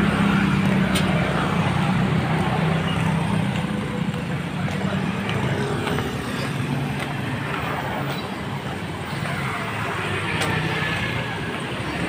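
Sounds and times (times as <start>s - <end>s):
motorbike and scooter engines passing: 0.0s - 12.0s.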